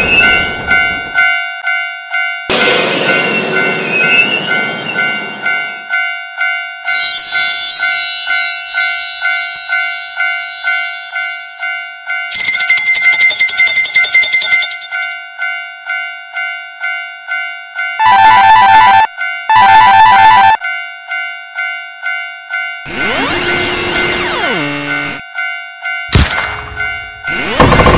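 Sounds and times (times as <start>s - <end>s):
railroad crossing bell ringing: 0.0s - 27.4s.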